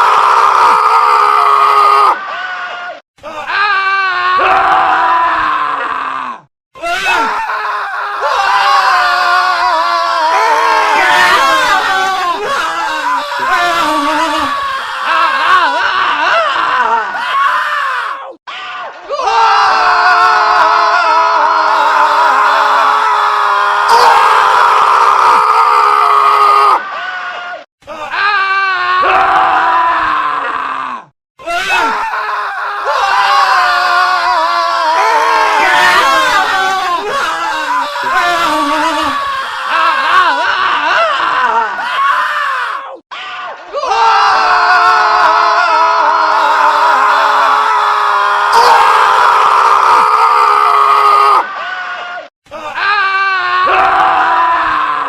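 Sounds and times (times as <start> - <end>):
men screaming: 0.0 - 55.0.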